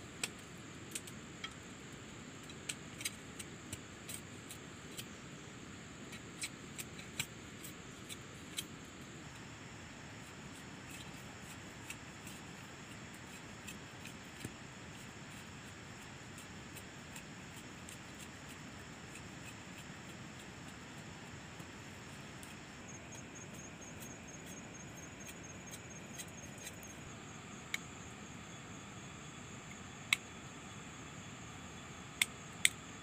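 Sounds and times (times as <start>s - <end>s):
knife shaving bamboo clicks: 0.1s - 5.4s, 6.0s - 28.0s, 29.6s - 30.3s, 32.2s - 33.0s.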